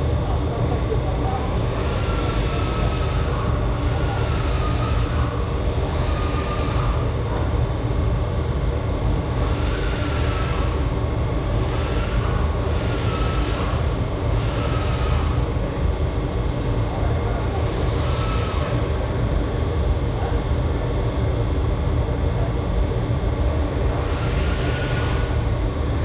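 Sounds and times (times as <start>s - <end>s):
low machine rumble: 0.0s - 26.0s.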